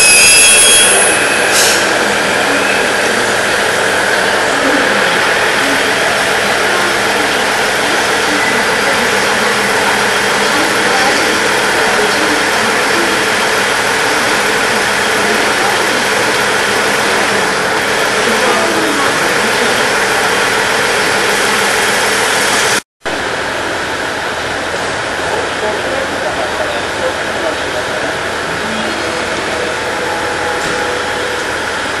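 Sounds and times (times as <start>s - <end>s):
diesel railcar engine drone: 0.0s - 32.0s.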